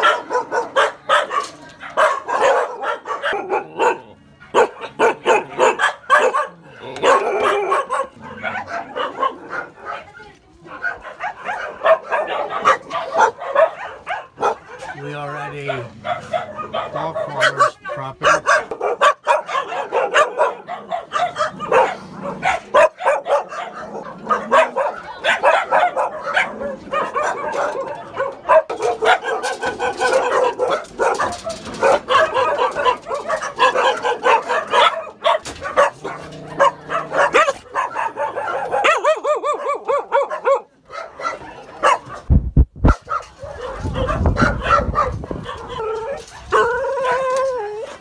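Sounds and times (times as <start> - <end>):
dogs barking and yelping: 0.0 - 48.0.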